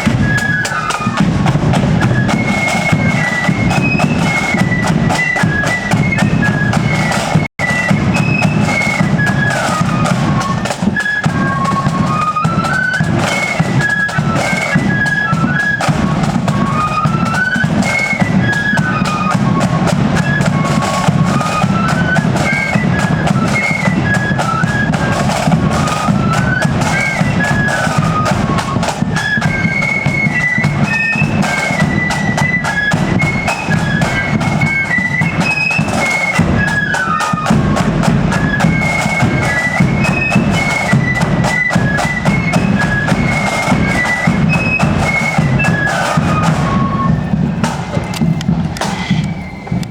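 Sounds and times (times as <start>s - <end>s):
flutes playing melody: 0.0s - 49.9s
snare and bass drums: 0.0s - 49.9s.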